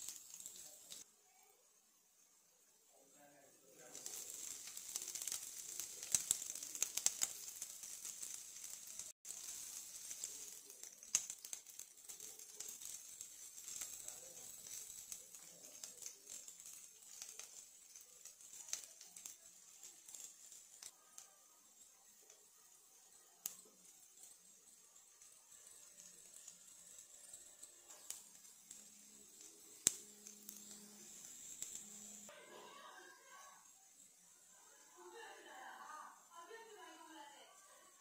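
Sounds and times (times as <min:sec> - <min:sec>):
vegetables sizzling in hot oil: 0:00.0 - 0:38.0.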